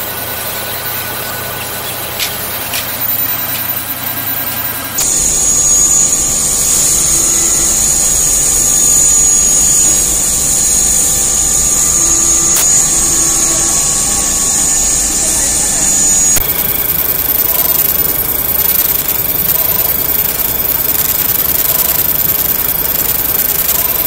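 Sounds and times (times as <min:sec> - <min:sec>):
low machine rumble: 0:00.0 - 0:24.0
milling machine high whine: 0:00.0 - 0:24.0
workshop machine noise: 0:00.0 - 0:24.0.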